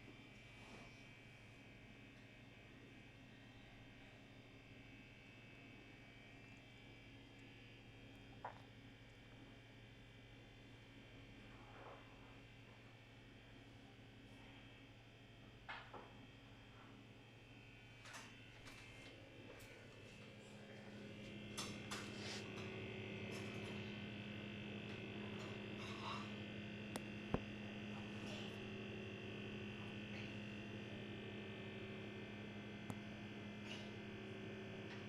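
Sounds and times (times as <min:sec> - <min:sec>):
fridge hum with high whine: 0:00.0 - 0:35.0.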